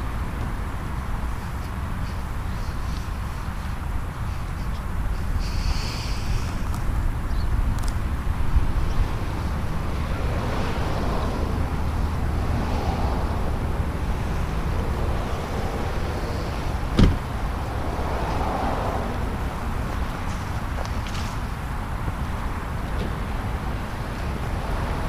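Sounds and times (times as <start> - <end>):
distant jet engines at takeoff: 0.0 - 25.0.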